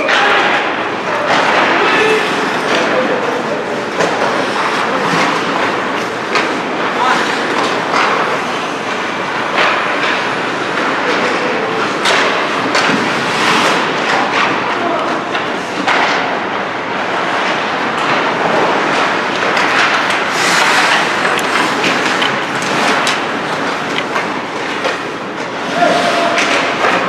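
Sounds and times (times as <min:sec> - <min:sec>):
skates scraping on ice: 0:00.0 - 0:16.3, 0:17.1 - 0:27.0
hockey sticks and pucks clacking: 0:00.0 - 0:27.0
players' voices: 0:00.0 - 0:27.0.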